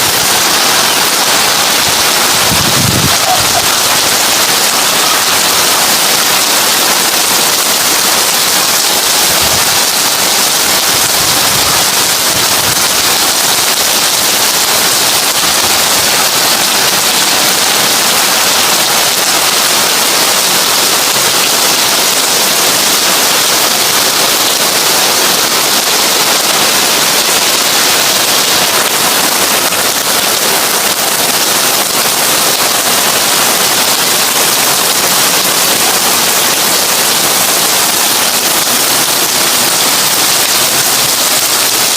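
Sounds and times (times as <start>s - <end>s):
heavy rain on a tin roof: 0.0s - 41.9s.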